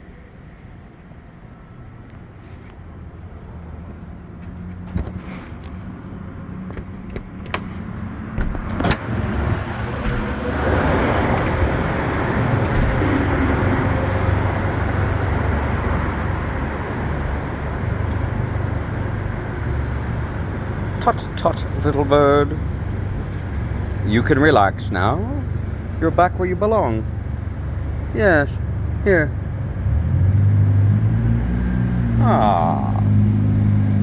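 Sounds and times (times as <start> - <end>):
road traffic noise: 0.0 - 34.0.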